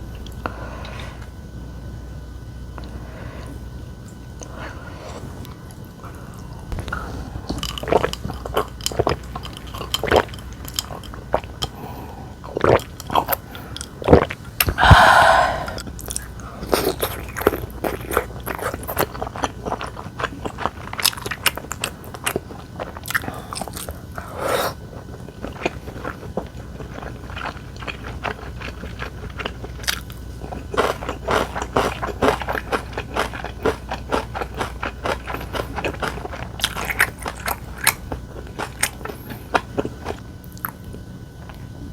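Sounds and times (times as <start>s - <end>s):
person chewing crisp food: 6.3s - 41.0s.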